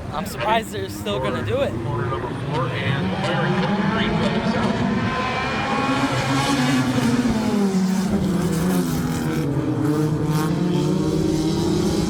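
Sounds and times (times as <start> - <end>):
stock car engines racing: 0.0 - 12.0.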